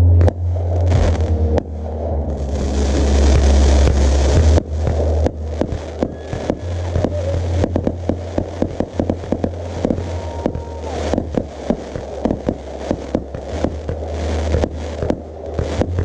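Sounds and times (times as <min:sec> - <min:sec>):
fireworks cracking and popping: 0:00.0 - 0:16.0
steady low hum: 0:00.0 - 0:16.0.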